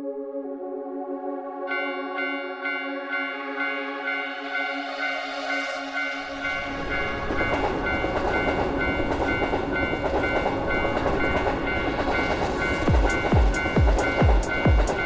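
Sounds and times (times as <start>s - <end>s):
railroad crossing alarm ringing: 1.7s - 15.0s
train passing: 2.1s - 15.0s.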